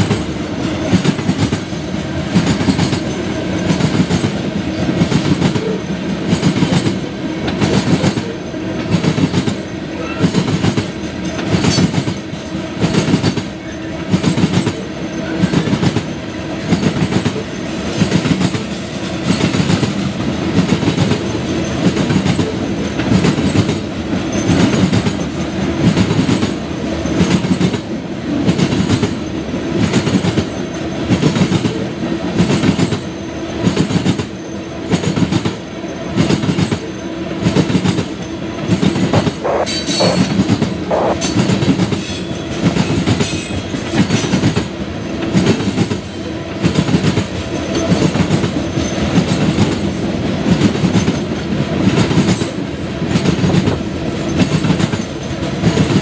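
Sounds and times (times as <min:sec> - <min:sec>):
train rumble: 0:00.0 - 0:56.0
train wheels clicking over rail joints: 0:00.0 - 0:56.0.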